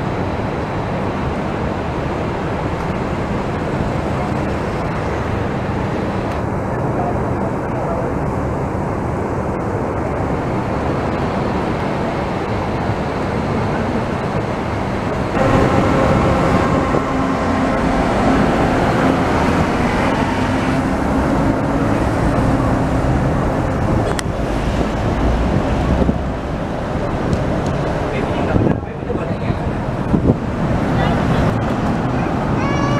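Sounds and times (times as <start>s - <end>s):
city traffic noise: 0.0s - 32.9s
monorail train humming past: 0.0s - 32.9s.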